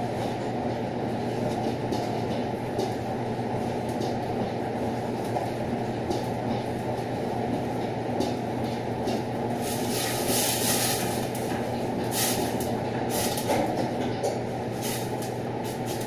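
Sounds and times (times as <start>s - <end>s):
extractor hood fan drone: 0.0s - 16.0s.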